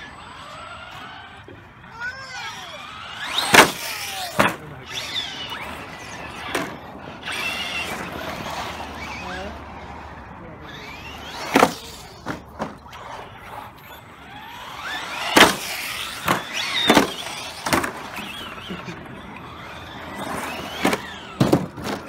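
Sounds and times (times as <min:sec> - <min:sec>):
toy trucks knocking and landing: 0:00.0 - 0:09.3, 0:10.6 - 0:22.0
electric motors whining: 0:00.0 - 0:22.0.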